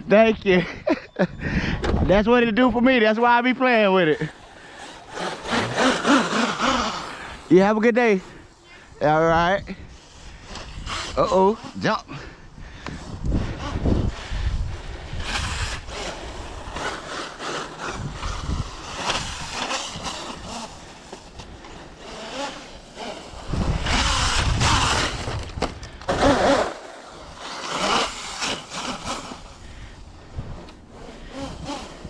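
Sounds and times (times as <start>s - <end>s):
rc truck motor and tyres: 1.6s - 32.0s.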